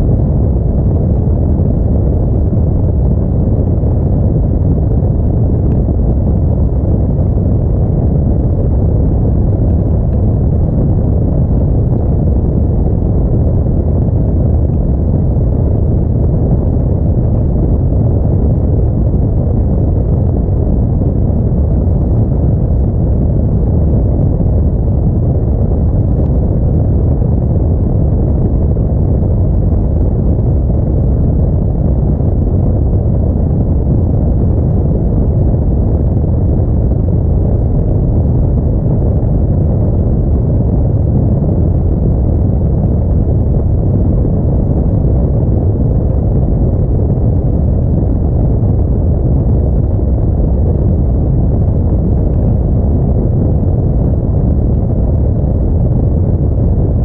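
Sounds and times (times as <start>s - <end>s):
wind noise: 0.0s - 57.0s.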